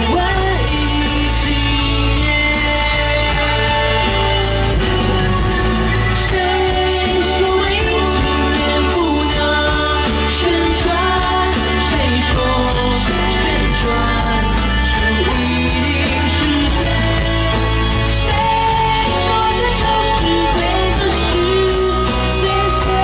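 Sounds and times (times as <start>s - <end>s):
backing band with heavy bass: 0.0s - 23.0s
woman singing into microphone: 0.0s - 23.0s.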